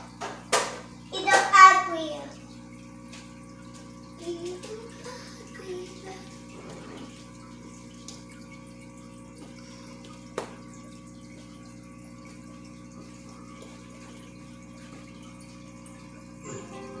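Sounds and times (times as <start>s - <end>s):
bubbling water trickling: 0.0s - 17.0s
fish tank pump humming: 0.0s - 17.0s.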